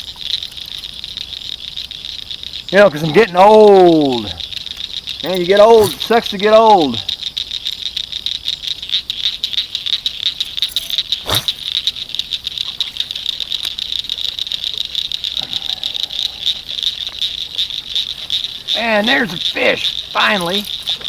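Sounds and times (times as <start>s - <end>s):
frogs and insects calling: 0.0s - 21.0s.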